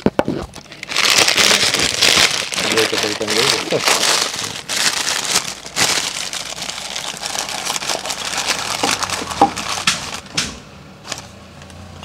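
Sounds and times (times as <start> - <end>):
wrapping paper rustling: 0.6 - 10.4.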